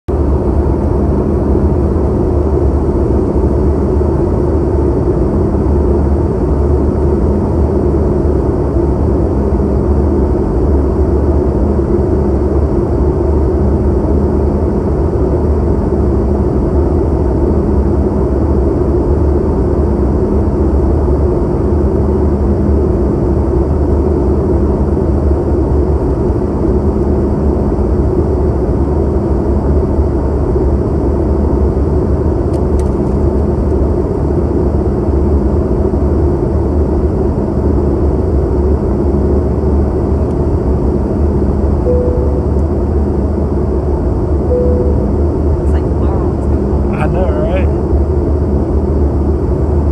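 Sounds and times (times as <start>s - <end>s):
airplane cabin engine rush: 0.1s - 49.9s
faint steady hum: 0.1s - 49.9s.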